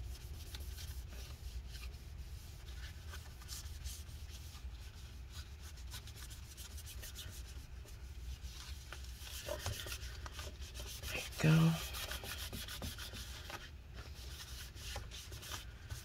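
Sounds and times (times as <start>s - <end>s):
paper towel scratchy rubbing: 0.0s - 16.0s.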